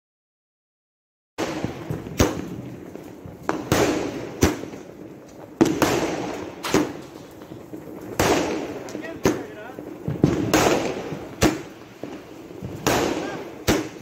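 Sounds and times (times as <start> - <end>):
fireworks bangs with echo: 1.4 - 14.0.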